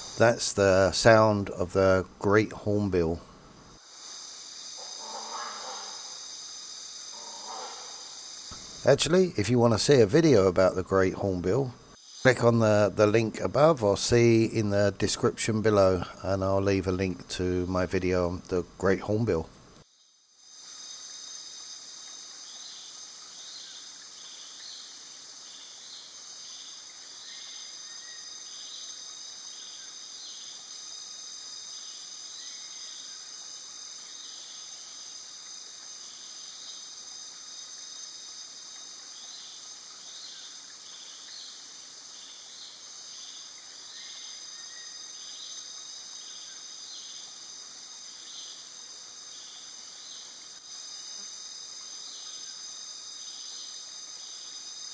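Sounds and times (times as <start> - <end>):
insect chirps: 0.0 - 54.9
insect drone: 0.0 - 54.9.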